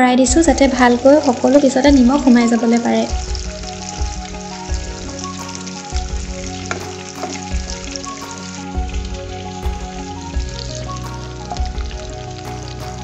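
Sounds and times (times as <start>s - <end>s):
soft background music: 0.0s - 13.0s
meat sizzling in fat: 0.4s - 13.0s.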